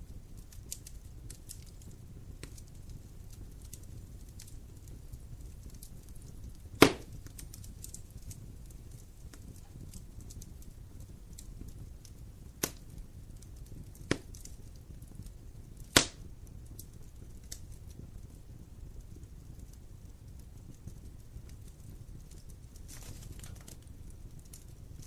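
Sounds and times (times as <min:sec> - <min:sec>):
fire pops: 0:00.0 - 0:25.0
wood fire crackling: 0:00.0 - 0:25.0.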